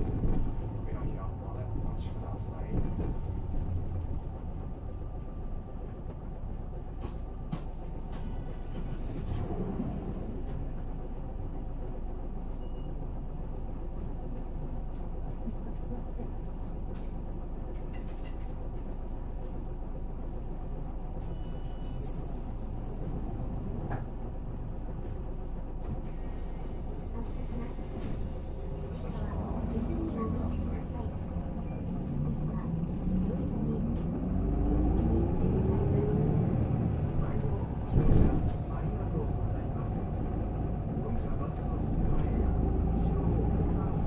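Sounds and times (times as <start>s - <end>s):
bus engine and road noise: 0.0s - 44.0s.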